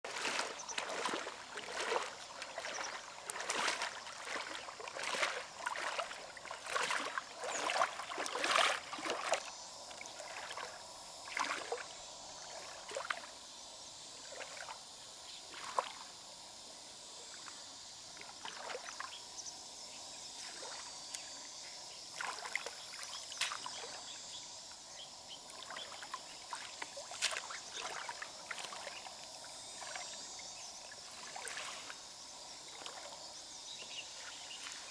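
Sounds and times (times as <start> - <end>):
water splashing and sloshing: 0.0 - 13.4, 14.2 - 14.8, 15.5 - 16.2, 17.3 - 19.1, 22.1 - 24.1, 25.4 - 34.9.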